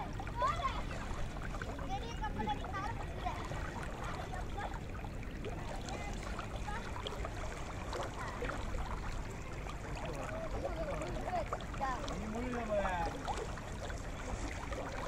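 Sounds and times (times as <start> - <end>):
river water lapping and trickling: 0.0 - 15.0.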